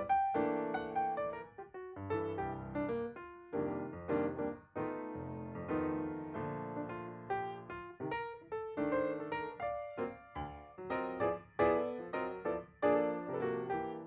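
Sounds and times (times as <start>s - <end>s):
piano chords and melody: 0.0s - 14.0s.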